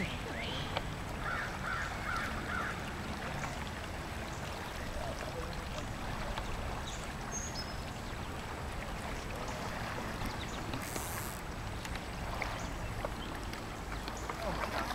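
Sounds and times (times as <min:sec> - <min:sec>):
river current rushing: 0:00.0 - 0:14.9.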